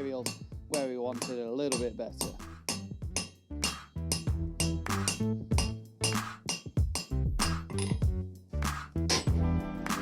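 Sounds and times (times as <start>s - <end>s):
background music with beat: 0.1s - 10.0s.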